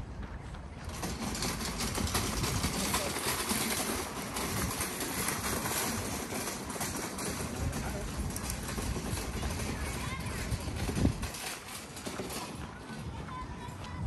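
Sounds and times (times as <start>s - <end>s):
indistinct voices of passers-by: 0.0s - 14.0s
steady rushing background noise: 0.1s - 14.0s.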